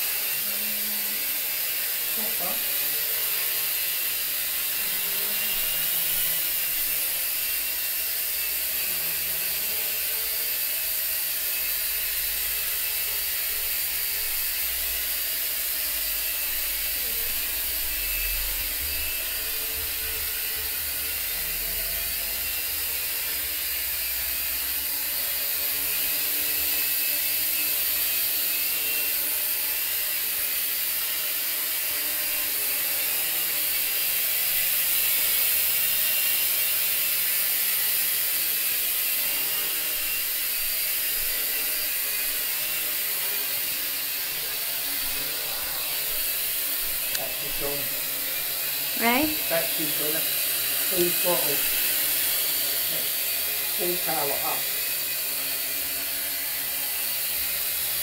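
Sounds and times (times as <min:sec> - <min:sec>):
toy quadcopter buzzing whine: 0:00.0 - 0:58.0.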